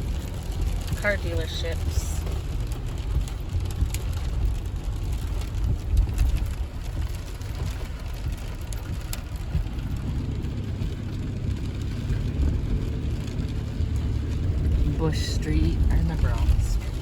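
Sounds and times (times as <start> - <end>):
raindrops ticking on car: 0.0 - 17.0
road rumble inside car: 0.0 - 17.0.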